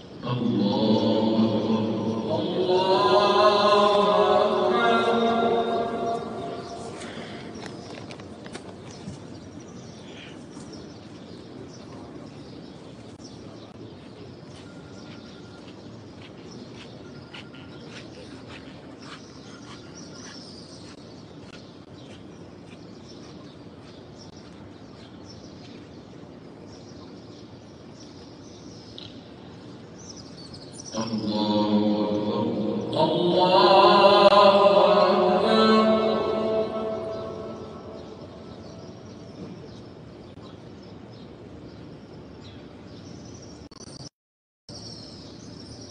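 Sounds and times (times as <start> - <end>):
steady background noise: 0.0 - 44.1, 44.7 - 45.9
small birds chirping: 4.0 - 44.1.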